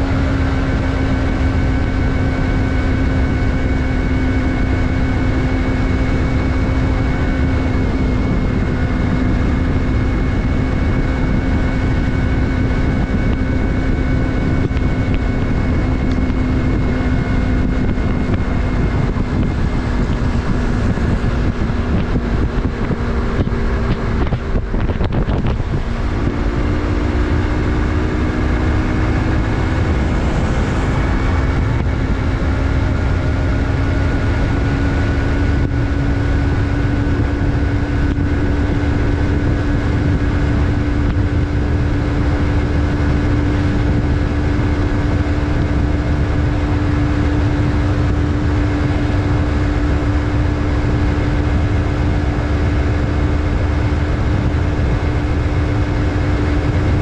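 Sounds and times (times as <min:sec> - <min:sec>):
motorcycle engine running: 0:00.0 - 0:57.0
road rumble: 0:00.0 - 0:57.0
wind: 0:00.0 - 0:57.0.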